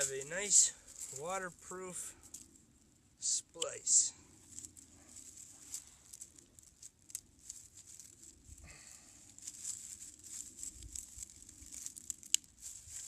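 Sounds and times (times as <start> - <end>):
hands rustling wire: 0.0 - 1.4, 3.6 - 13.0.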